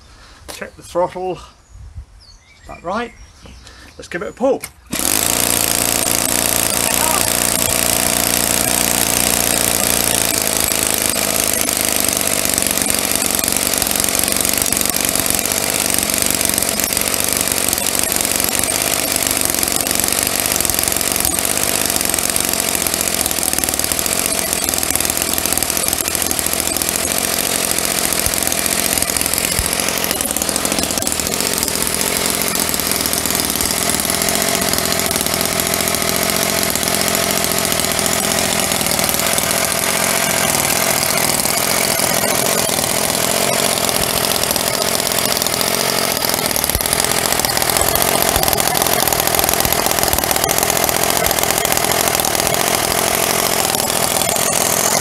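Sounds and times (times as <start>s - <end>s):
small model engine running: 4.9s - 55.0s.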